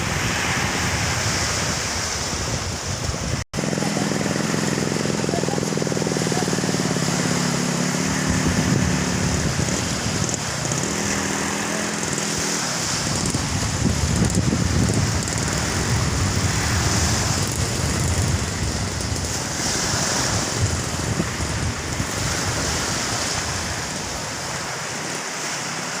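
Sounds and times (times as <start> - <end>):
wind buffeting microphone: 0.0 - 25.3
surf breaking: 0.0 - 26.0
motor engine humming: 3.1 - 25.1.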